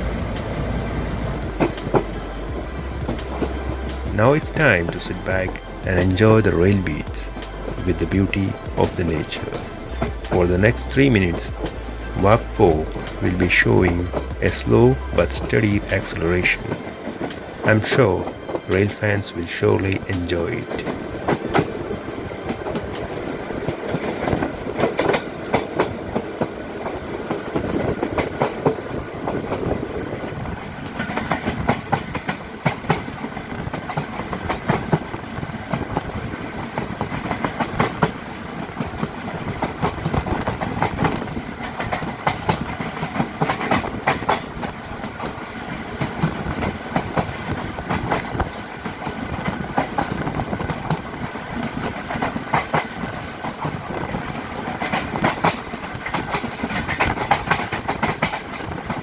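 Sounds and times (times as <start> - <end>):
steady train rumble: 0.0 - 59.0
train wheels clicking on rail joints: 0.0 - 59.0.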